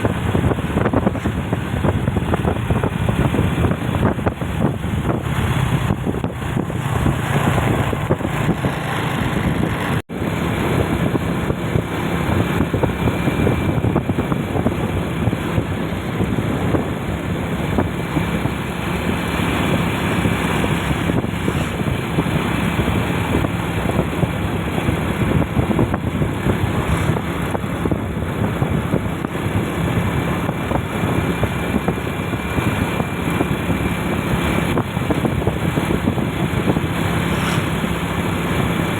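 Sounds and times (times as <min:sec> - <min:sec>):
road and wind noise: 0:00.0 - 0:38.9
vehicle engine running: 0:00.0 - 0:38.9.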